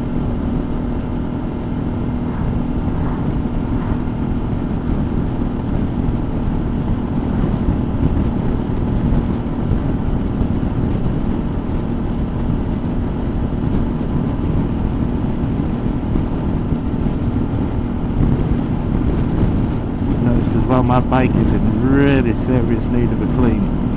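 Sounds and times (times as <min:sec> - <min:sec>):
motorcycle engine cruising: 0:00.0 - 0:23.9
wind noise on microphone: 0:00.0 - 0:23.9.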